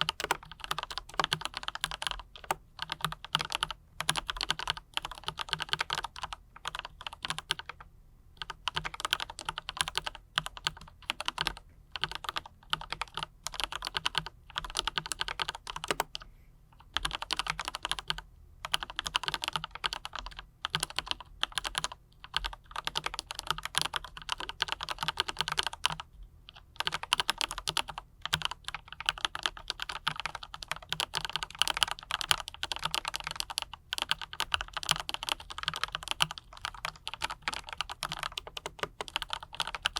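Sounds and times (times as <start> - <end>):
typing on a mechanical keyboard: 0.0 - 16.3, 16.9 - 39.9.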